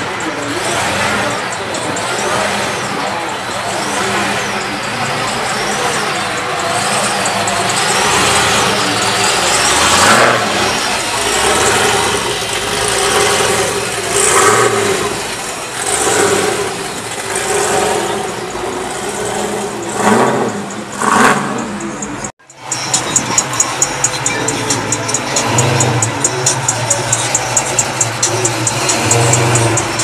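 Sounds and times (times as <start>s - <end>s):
car engines revving: 0.0s - 30.0s
music with steady beat: 0.0s - 30.0s.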